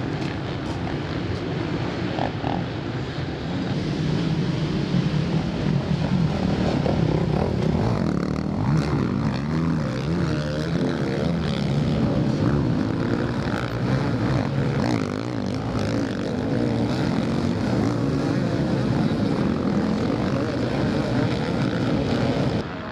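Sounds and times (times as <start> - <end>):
motocross bikes revving: 0.0 - 22.9.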